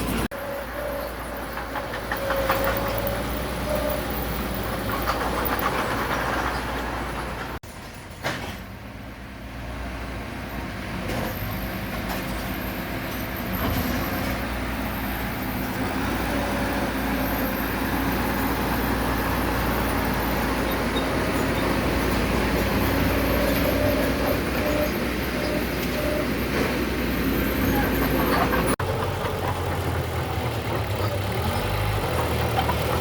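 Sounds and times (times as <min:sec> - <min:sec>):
heavy diesel engine rumbling: 0:00.0 - 0:33.0.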